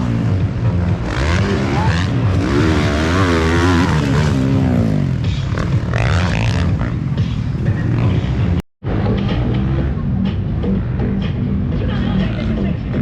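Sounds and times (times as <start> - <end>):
motocross motorcycle engines racing: 0.0 - 13.0.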